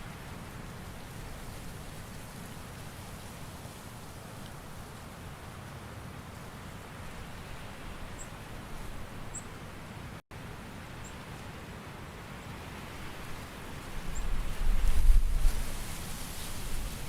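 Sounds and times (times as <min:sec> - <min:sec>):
steady hiss of rain or leaves: 0:00.0 - 0:17.0.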